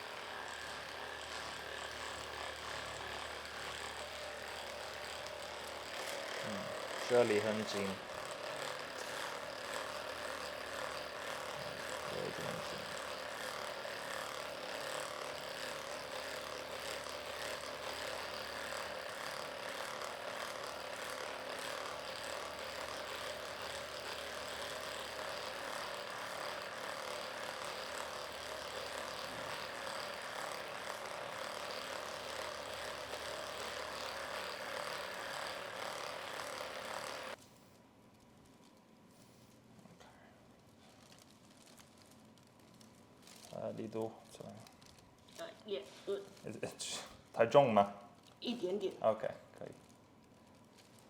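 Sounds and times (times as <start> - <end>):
massage gun motor buzz: 0.0 - 37.4, 41.0 - 49.8.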